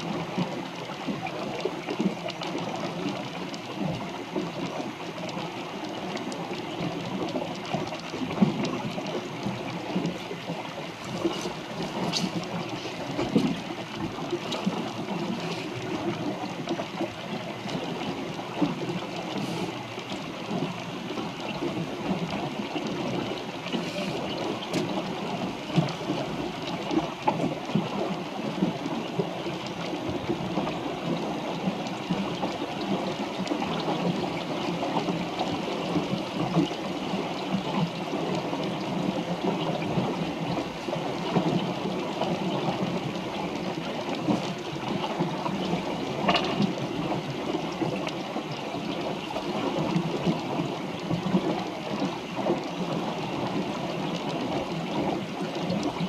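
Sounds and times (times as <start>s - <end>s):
water splashing along boat hull: 0.0s - 56.0s.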